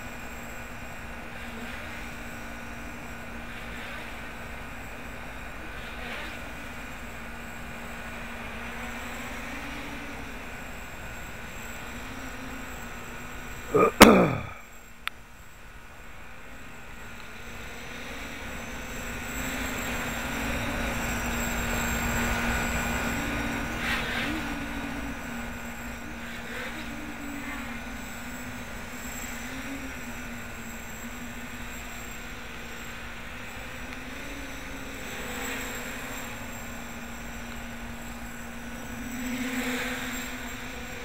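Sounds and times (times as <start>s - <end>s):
quadcopter motors humming: 0.0s - 41.0s.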